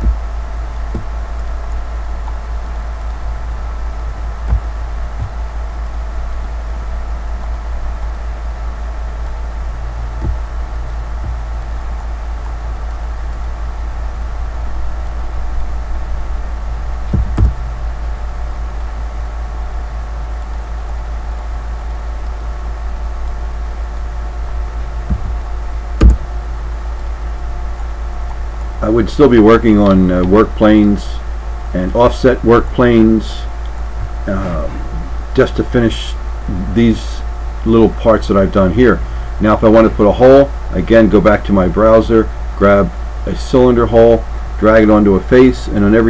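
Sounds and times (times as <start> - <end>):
low electrical hum: 0.0 - 46.0.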